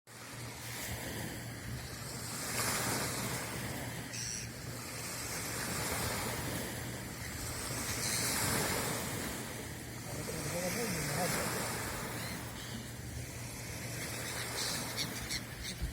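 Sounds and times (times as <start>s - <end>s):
sea waves washing in: 0.1s - 15.9s.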